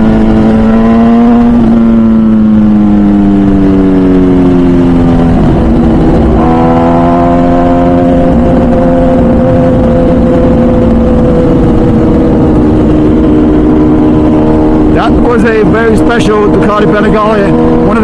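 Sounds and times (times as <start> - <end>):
motorcycle engine while riding: 0.0 - 18.0.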